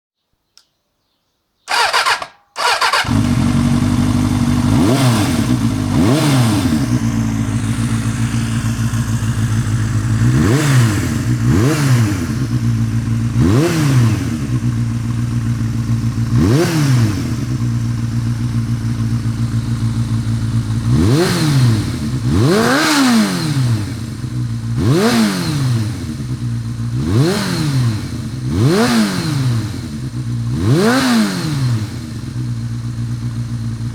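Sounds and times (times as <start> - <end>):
motorcycle engine revving: 1.7 - 33.9.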